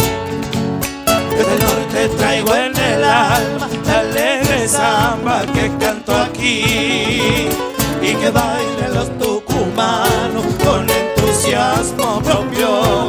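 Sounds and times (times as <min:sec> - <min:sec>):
drum beats: 0:00.0 - 0:13.0
guitars strummed: 0:00.0 - 0:13.0
person singing with vibrato: 0:01.2 - 0:13.0
high wavering vocal line: 0:01.3 - 0:13.0.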